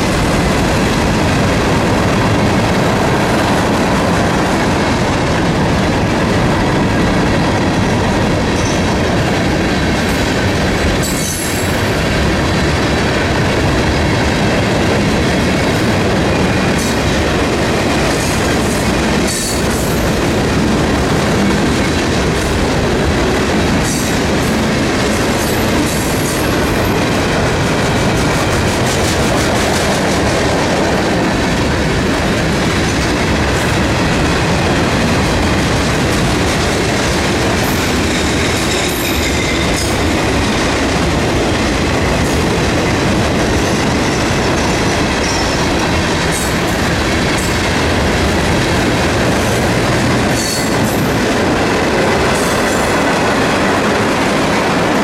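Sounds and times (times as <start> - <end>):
steel wheels clattering on rail: 0.0 - 55.0.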